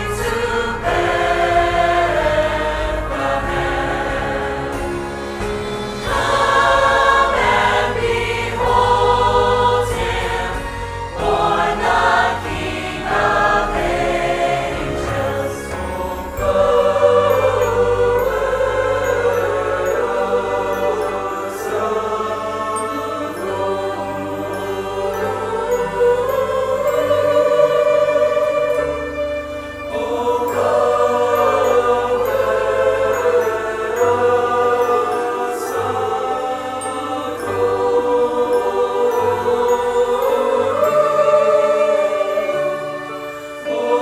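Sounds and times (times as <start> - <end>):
church choir singing: 0.0 - 44.0
instrumental accompaniment: 0.0 - 44.0.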